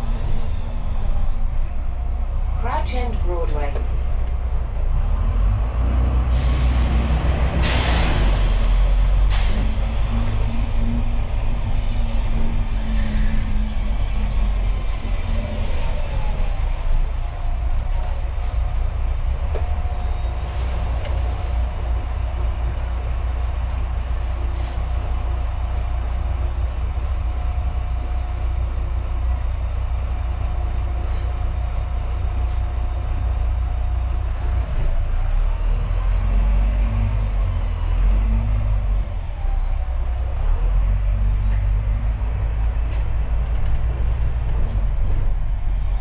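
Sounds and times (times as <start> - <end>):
bus drivetrain rumble: 0.0 - 46.0
road noise: 0.0 - 46.0.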